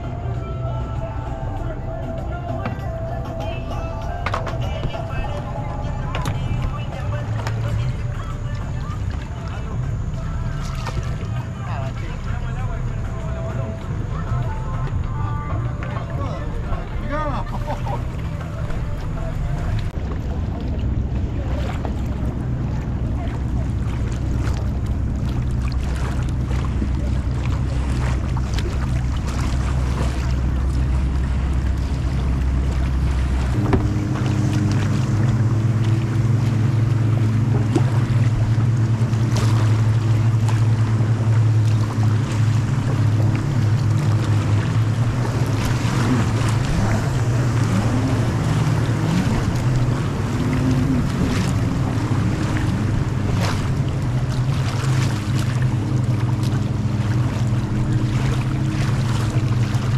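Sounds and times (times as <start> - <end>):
motorboat engine humming: 0.0 - 59.9
water noise: 0.0 - 59.9
wind buffeting microphone: 10.9 - 59.9.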